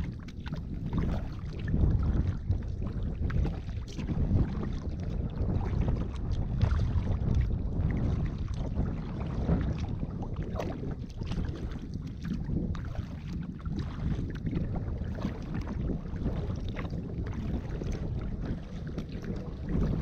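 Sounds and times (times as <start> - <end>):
kayak paddle splashes: 0.0 - 20.0
wind rumble on microphone: 0.0 - 20.0.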